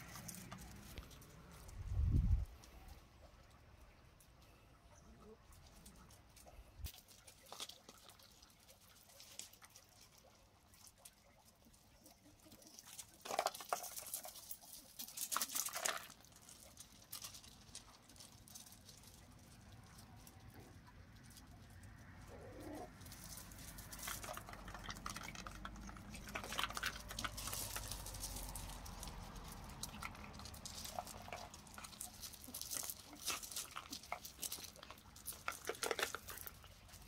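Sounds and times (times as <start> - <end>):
puppies scampering on gravel: 0.0 - 37.0.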